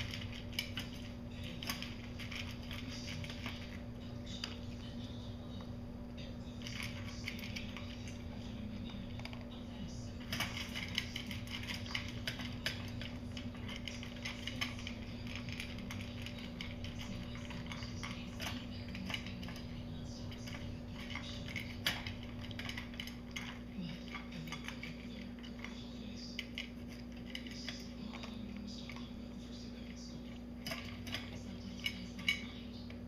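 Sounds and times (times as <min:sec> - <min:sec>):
dog eating from metal bowl: 0:00.0 - 0:33.0
faint steady hum: 0:00.0 - 0:33.0.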